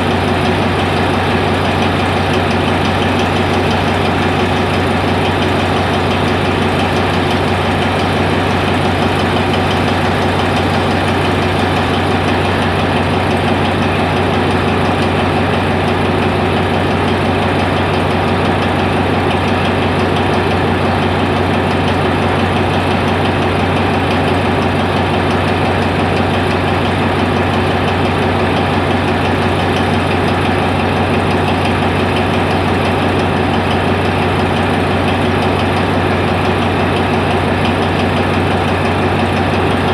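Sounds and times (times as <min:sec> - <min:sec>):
locomotive engine idling: 0:00.0 - 0:39.9.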